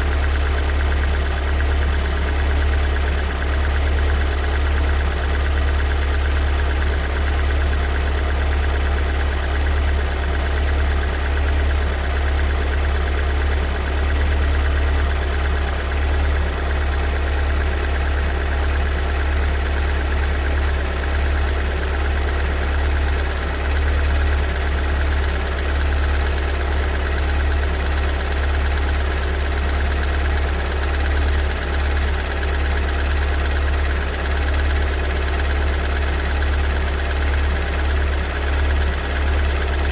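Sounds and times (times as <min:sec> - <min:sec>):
diesel engine idling: 0:00.0 - 0:39.9
loud engine knocking: 0:00.0 - 0:39.9.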